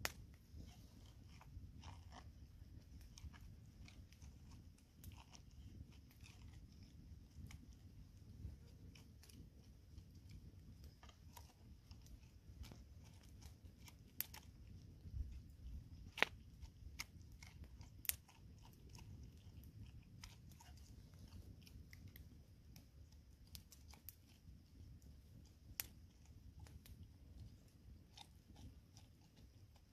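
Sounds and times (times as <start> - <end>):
spoon scraping pineapple flesh: 0.0 - 24.5.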